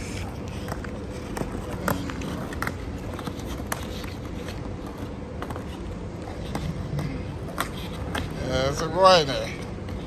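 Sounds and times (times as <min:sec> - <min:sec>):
skateboard clacks: 0:00.0 - 0:10.0
skateboard rolling on asphalt: 0:00.0 - 0:10.0.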